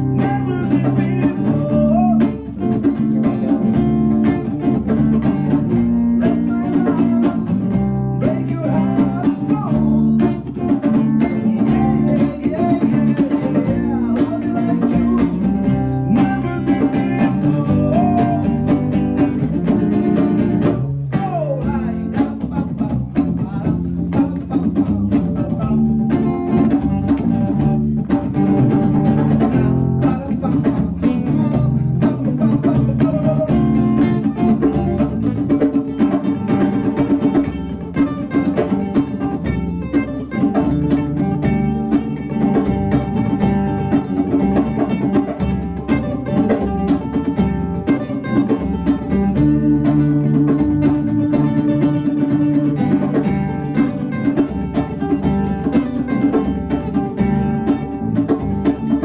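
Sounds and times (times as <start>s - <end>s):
drum kit: 0.0s - 59.0s
guitar playing: 0.0s - 59.0s.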